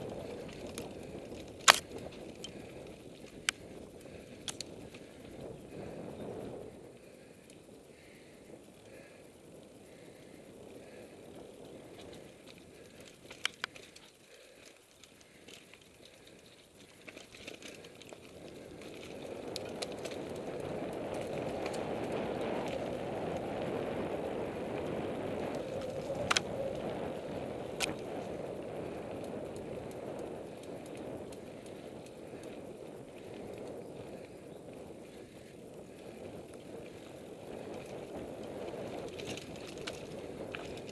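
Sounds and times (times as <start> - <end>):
bike tyres rumbling on dirt trail: 0.0 - 40.9.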